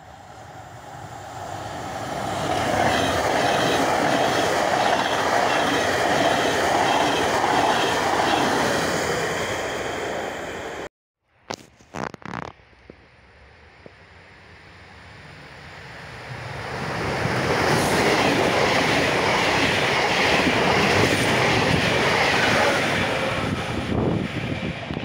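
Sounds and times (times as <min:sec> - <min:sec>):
train passing at speed: 0:00.0 - 0:10.9, 0:13.2 - 0:25.0.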